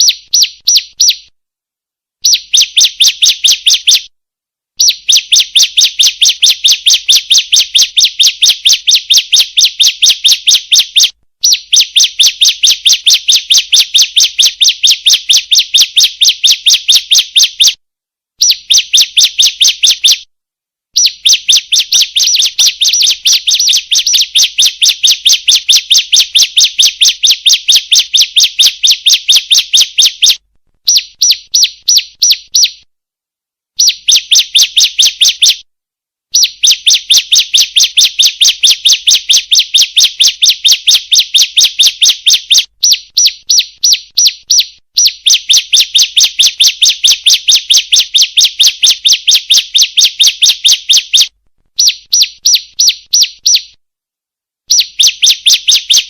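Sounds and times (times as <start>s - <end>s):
bird high sharp chirps: 0.0s - 1.3s, 2.2s - 4.1s, 4.8s - 17.8s, 18.4s - 20.3s, 21.0s - 32.9s, 33.8s - 35.7s, 36.3s - 53.8s, 54.7s - 56.0s.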